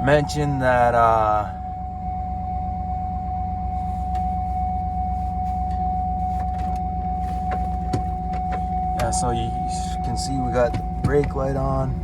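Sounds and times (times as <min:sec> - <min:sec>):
car engine idling: 0:00.0 - 0:12.0
high-pitched tone: 0:00.0 - 0:12.0.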